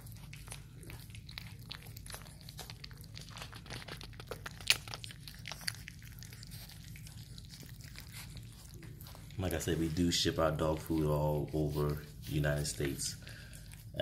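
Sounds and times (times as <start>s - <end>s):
puppies eating wet mouth sounds: 0.0s - 14.0s.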